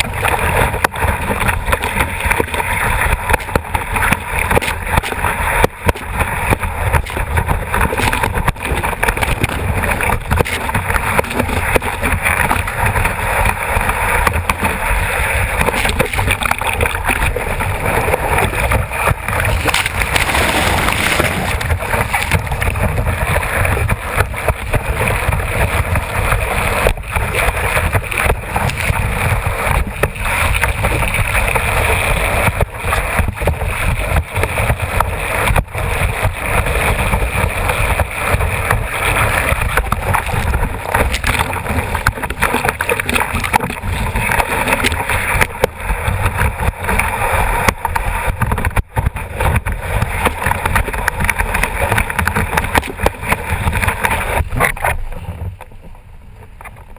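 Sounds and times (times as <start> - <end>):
water chop slapping board: 0.0 - 14.8, 15.5 - 31.7, 32.3 - 55.0
rush of wind and water: 0.0 - 56.9.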